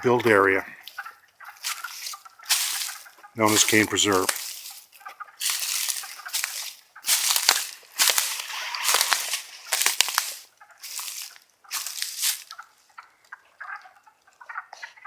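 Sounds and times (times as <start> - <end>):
wood frogs clucking: 0.0 - 15.0
crunching rustles in dry leaves: 0.8 - 12.9.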